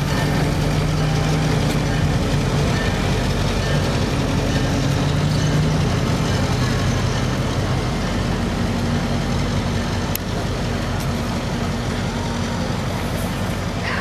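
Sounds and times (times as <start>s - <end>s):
diesel locomotive engine droning: 0.0s - 14.0s.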